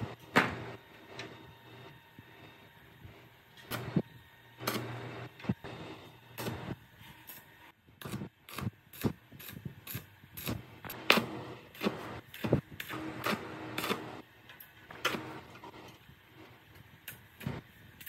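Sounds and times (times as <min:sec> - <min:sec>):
welding arc crackles: 0:00.0 - 0:18.0.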